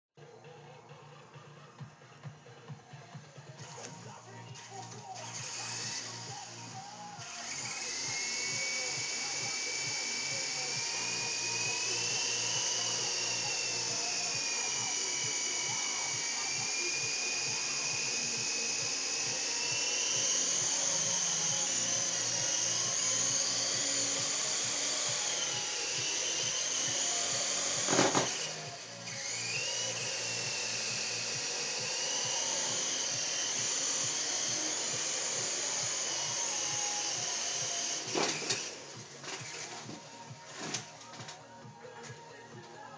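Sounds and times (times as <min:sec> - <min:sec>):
rc helicopter rotors whining: 0:00.2 - 0:41.5.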